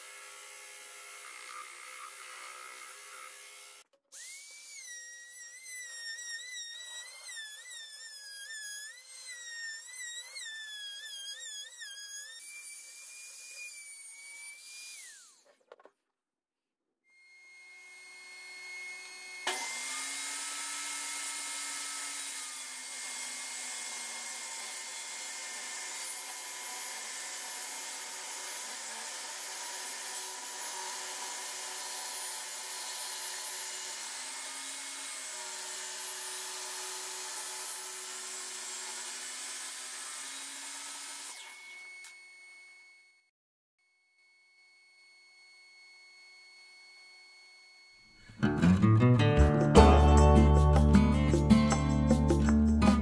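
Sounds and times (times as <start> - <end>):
table saw cutting wood: 0.0 - 15.8, 17.1 - 43.3, 44.3 - 49.0.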